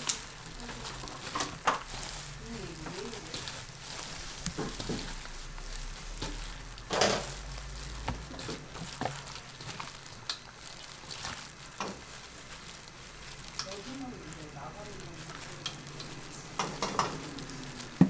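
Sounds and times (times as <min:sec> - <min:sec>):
low steady hum: 0:00.0 - 0:18.0
plastic gloves crinkling: 0:00.0 - 0:18.0
rice squishing: 0:00.0 - 0:18.0.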